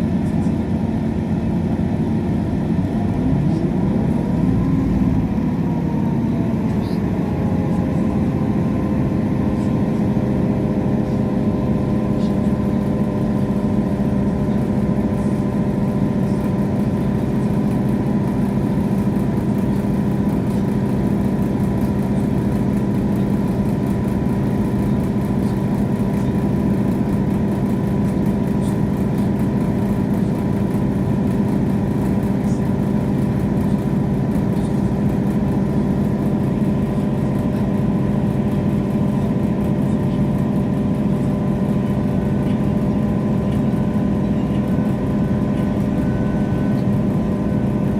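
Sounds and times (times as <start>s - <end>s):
diesel train engine rumbling: 0.0s - 47.9s.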